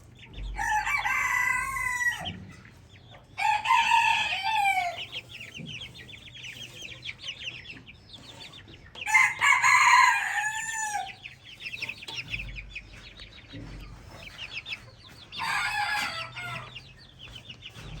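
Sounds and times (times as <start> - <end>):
chicken calls: 0.0 - 18.0
chicks peeping: 0.0 - 18.0.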